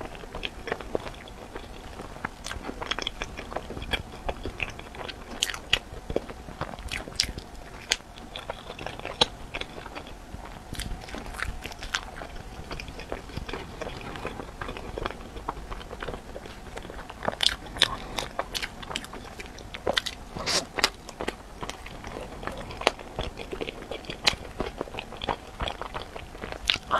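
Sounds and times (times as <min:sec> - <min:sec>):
chewing crusty bread: 0:00.0 - 0:26.9.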